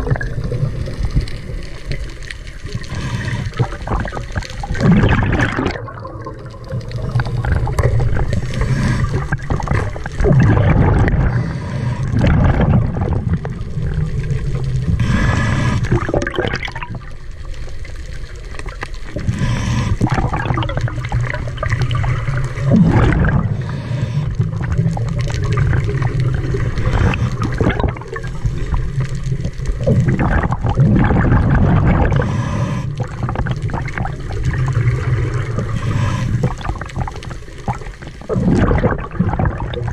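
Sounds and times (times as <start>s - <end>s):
diver exhaling bubbles underwater: 0.0s - 17.2s, 18.6s - 39.9s.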